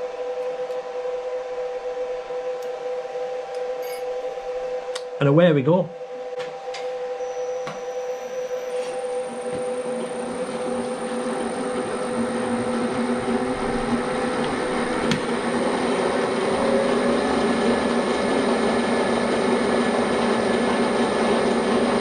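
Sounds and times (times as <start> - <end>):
milling machine motor humming: 0.0 - 5.4, 6.0 - 22.0.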